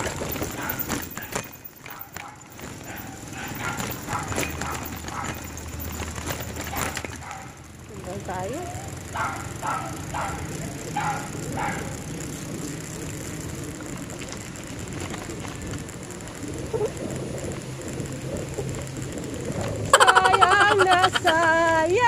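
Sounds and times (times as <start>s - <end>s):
bicycle freewheel ticking: 0.0s - 22.0s.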